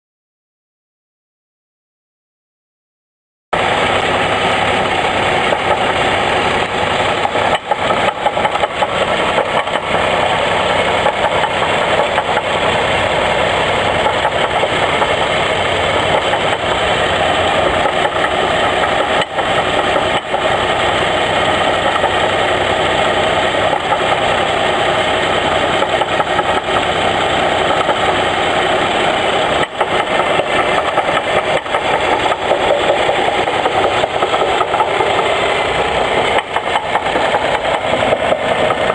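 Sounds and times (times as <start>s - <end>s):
car engine idling with knock: 3.6s - 38.9s.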